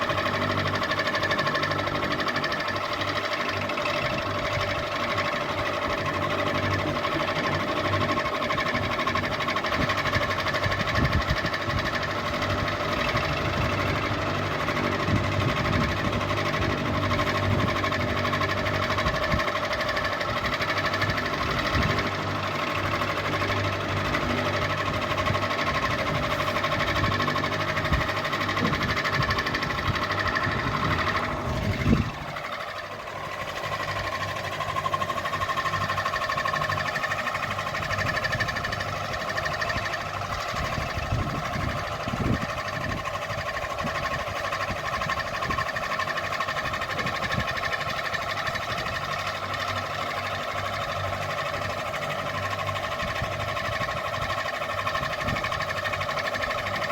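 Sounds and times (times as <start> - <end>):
ceiling fan motor hum: 0.0 - 56.9
fan mechanical clatter: 0.0 - 56.9.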